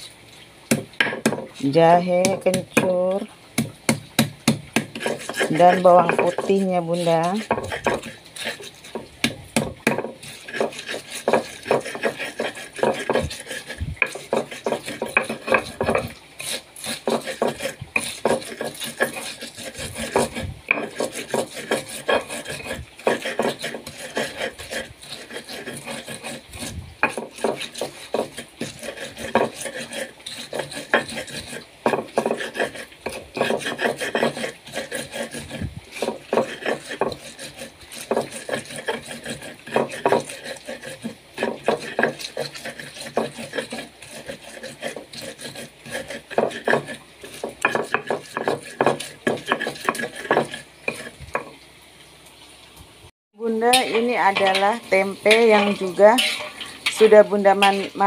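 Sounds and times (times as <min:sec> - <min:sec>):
pestle grinding in stone mortar: 0:00.7 - 0:51.6, 0:53.4 - 0:58.0.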